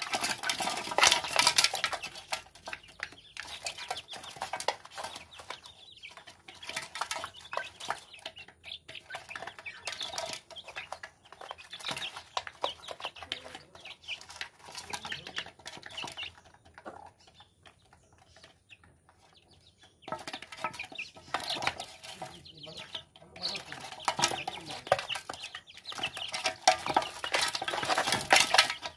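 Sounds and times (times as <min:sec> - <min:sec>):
beaks tapping in feed: 0:00.0 - 0:28.9
chicks clucking and cheeping: 0:00.0 - 0:28.9.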